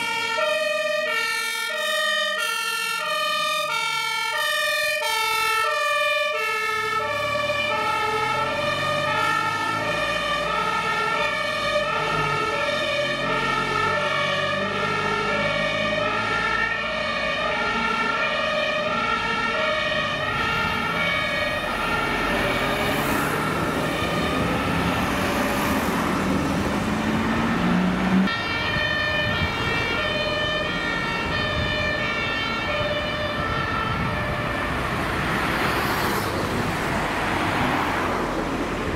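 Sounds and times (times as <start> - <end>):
truck engine and road noise: 0.0 - 38.9
two-tone fire engine siren: 0.0 - 38.9.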